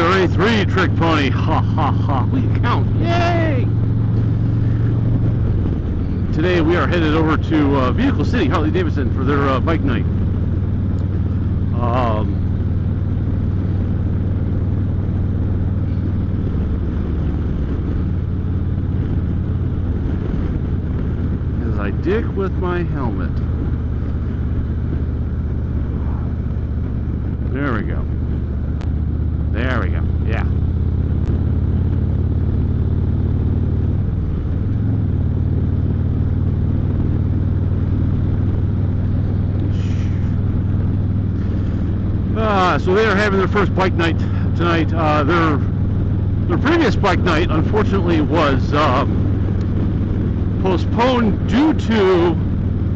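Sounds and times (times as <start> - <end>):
motorcycle engine idling: 0.0 - 52.9.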